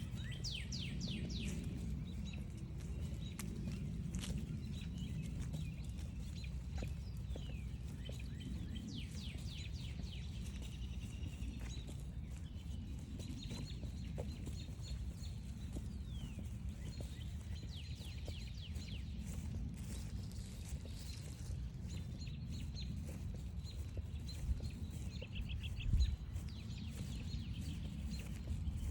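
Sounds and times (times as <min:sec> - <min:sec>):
songbirds chirping: 0:00.0 - 0:28.9
steady low rumble: 0:00.0 - 0:28.9.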